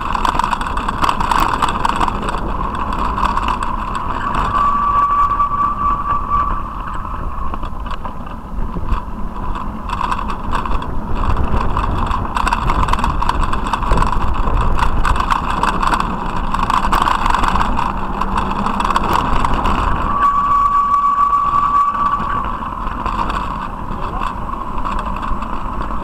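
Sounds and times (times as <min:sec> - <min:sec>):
rattling clicks: 0:00.0 - 0:26.0
tyres rolling over brick paving: 0:00.0 - 0:26.0.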